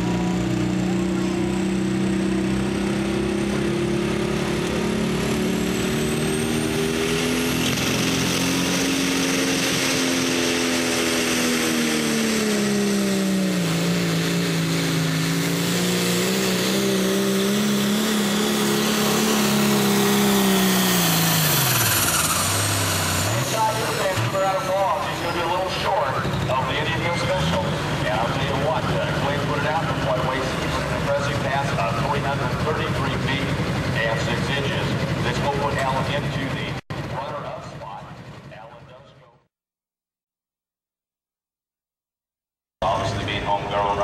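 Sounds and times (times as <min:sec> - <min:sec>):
diesel engine running under load: 0:00.0 - 0:39.1.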